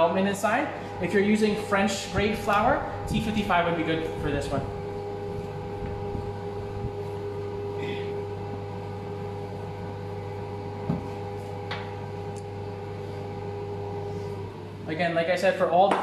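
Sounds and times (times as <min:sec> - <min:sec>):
kitchen appliance humming: 0:00.0 - 0:16.0.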